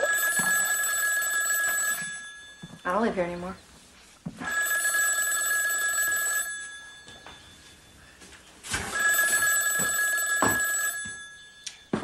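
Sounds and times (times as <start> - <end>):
telephone ringing: 0.0 - 3.1, 4.4 - 8.1, 8.8 - 12.0.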